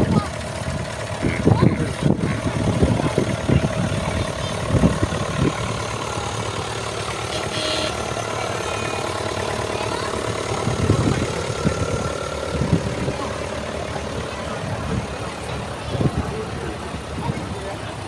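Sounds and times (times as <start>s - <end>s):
tractor engines running: 0.0s - 18.0s.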